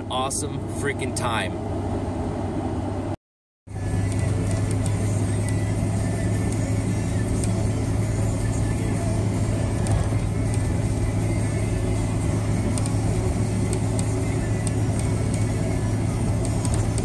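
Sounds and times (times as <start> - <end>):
engine and road drone: 0.0 - 17.0.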